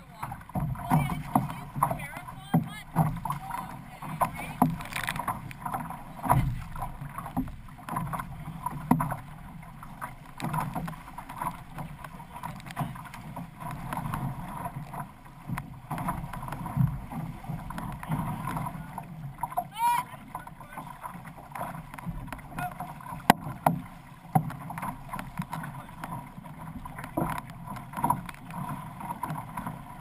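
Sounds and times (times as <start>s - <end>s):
paddle stroke splashes and knocks: 0.0s - 30.0s
water rushing along hull: 0.0s - 30.0s.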